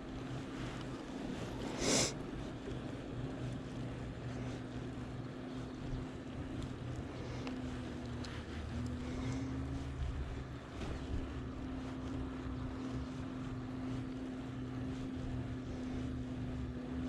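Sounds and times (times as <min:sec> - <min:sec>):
steady low hum: 0:00.0 - 0:17.0
wind rumbling on microphone: 0:00.0 - 0:17.0.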